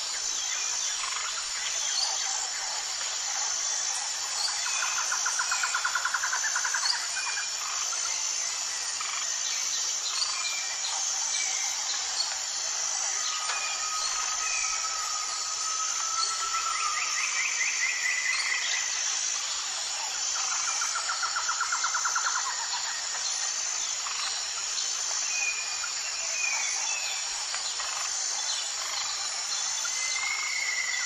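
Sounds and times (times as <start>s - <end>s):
insects chorus: 0.0s - 31.0s.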